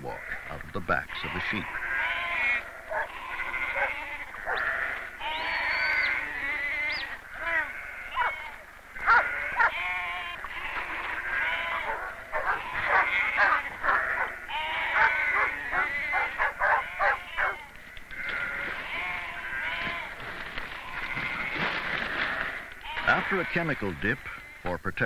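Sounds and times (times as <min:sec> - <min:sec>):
sheep bleating: 0:00.0 - 0:24.8.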